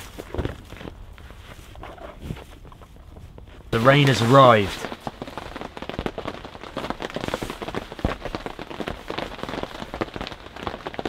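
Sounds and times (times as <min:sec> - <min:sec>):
rain on a canvas tent: 0:00.0 - 0:11.0.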